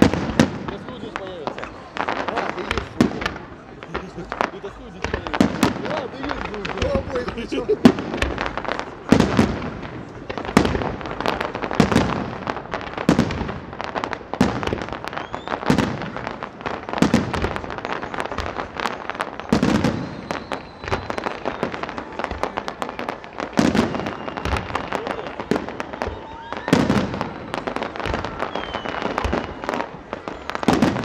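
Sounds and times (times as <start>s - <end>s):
firework shells booming: 0.0s - 31.0s
fireworks crackling and popping: 0.0s - 31.0s.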